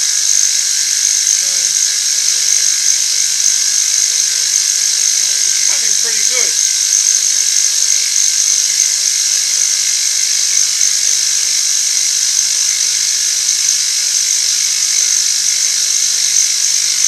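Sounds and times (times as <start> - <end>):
milling cutter high-pitched whine: 0.0 - 17.0.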